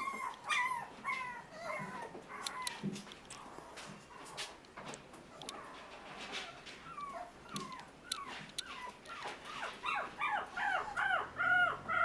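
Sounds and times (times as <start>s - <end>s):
puppy whining: 0.0s - 4.6s, 5.2s - 12.0s.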